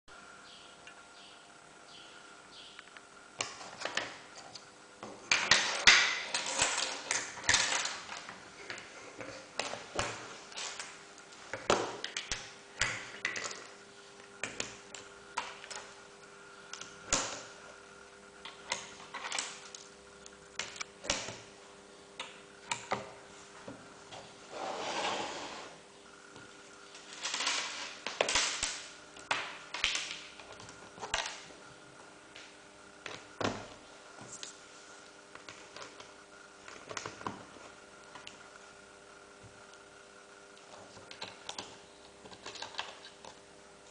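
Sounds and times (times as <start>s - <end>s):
faint steady hum: 0.1s - 43.9s.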